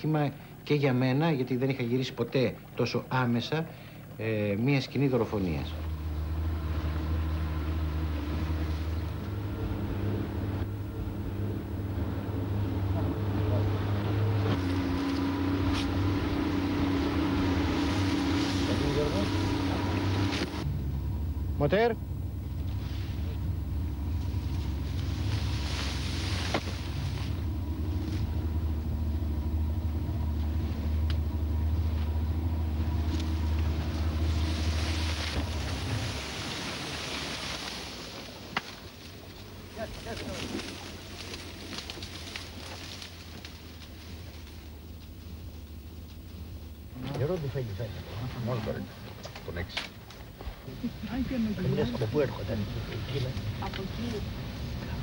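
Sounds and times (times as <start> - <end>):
outboard motor running: 5.3 - 55.0.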